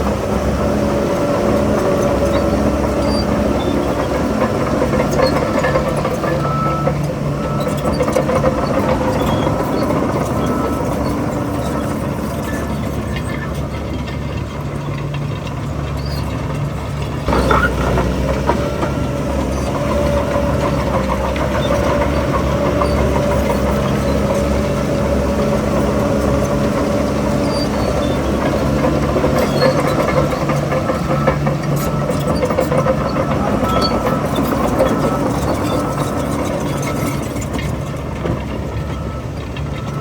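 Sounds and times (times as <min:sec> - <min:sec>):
diesel machinery engine running: 0:00.0 - 0:40.0.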